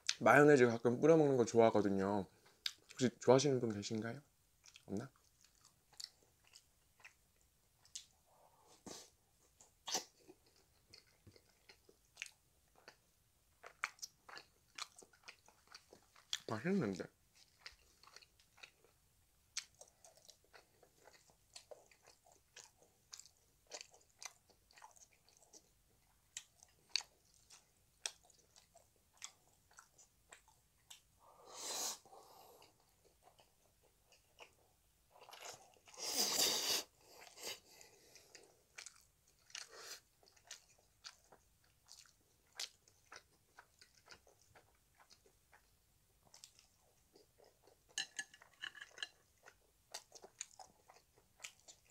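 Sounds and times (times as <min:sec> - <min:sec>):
chewing with wet clicks: 0:02.4 - 0:03.8, 0:04.6 - 0:08.2, 0:09.6 - 0:16.6, 0:17.3 - 0:31.1, 0:32.6 - 0:36.0, 0:37.0 - 0:51.9.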